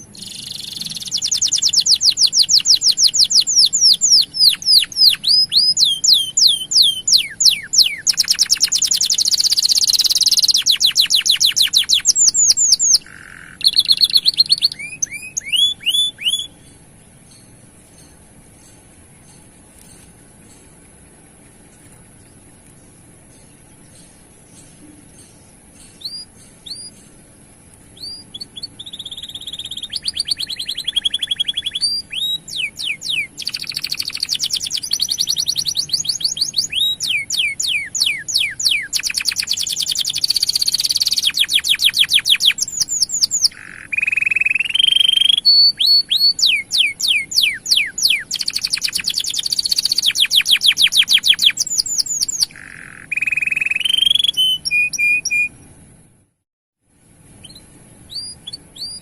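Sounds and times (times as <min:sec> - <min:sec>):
canary singing trills: 0:00.0 - 0:56.1, 0:57.1 - 0:59.0.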